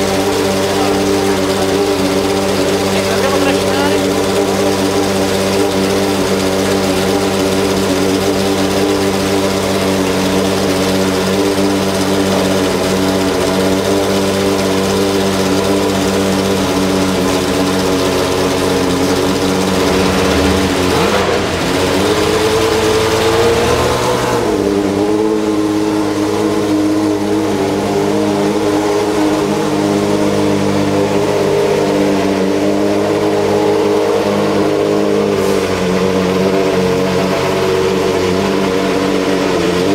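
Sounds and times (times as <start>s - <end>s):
racing car engine idling: 0.0s - 39.9s.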